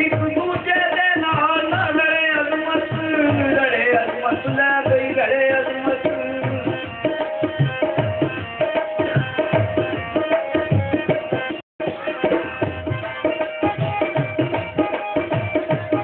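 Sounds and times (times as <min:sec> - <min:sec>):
repeating folk melody: 0:00.0 - 0:16.0
tabla playing a quick rhythm: 0:00.0 - 0:16.0.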